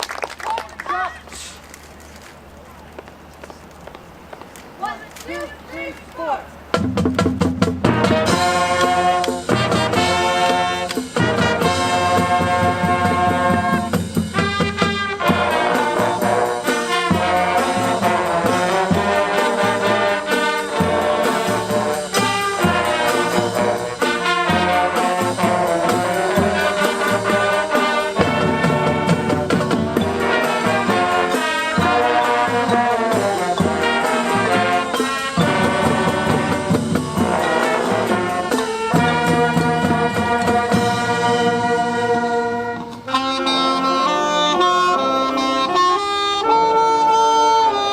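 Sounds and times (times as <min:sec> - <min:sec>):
drumline: 0:03.6 - 0:47.8
brass section playing: 0:04.8 - 0:47.9.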